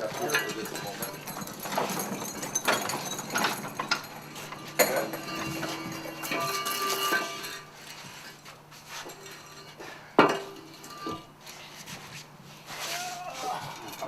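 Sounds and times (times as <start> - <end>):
metal clinks and knocks: 0.0 - 11.7.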